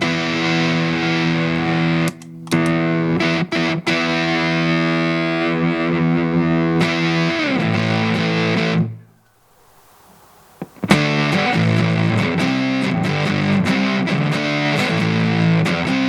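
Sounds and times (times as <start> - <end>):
fuzzed electric guitar chords: 0.0 - 9.0, 9.8 - 16.0
faint amplifier hiss: 0.0 - 16.0.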